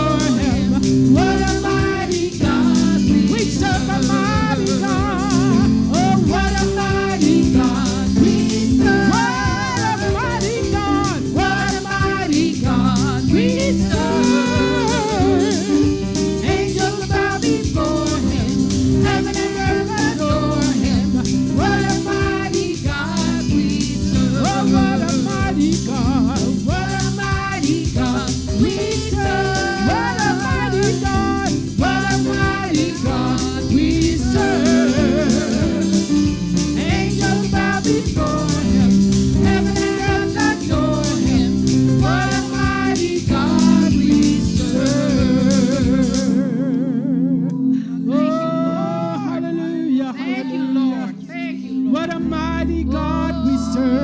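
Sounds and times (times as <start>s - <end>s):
instrumental band with guitar: 0.0s - 46.4s
person singing with vibrato: 0.0s - 54.0s.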